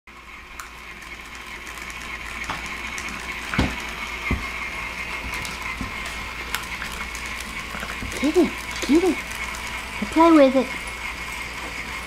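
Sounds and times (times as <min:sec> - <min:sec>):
toy motor and gears whirring: 0:00.2 - 0:12.0.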